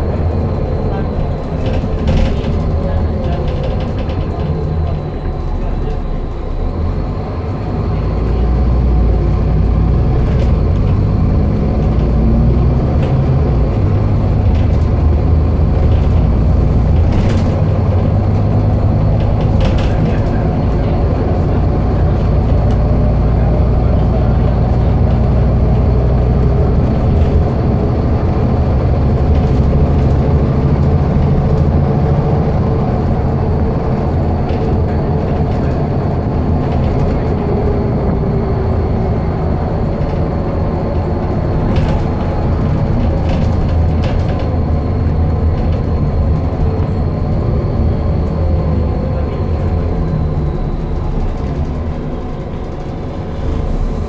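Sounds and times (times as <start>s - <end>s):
bus diesel engine running: 0.0s - 54.0s
road noise: 0.0s - 54.0s.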